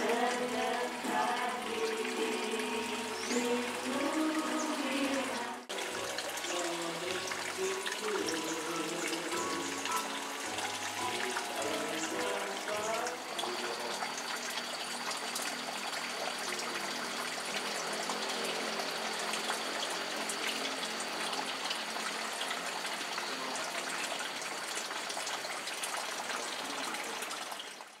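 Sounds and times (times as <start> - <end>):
water splashing into pond: 0.0 - 28.0.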